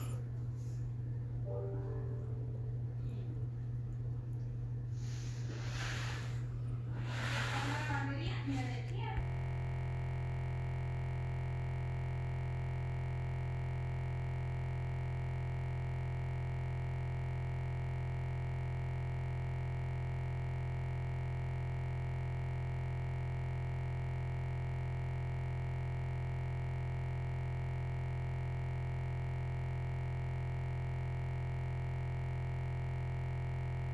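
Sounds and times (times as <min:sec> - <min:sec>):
low electronic buzz: 0:00.0 - 0:33.9.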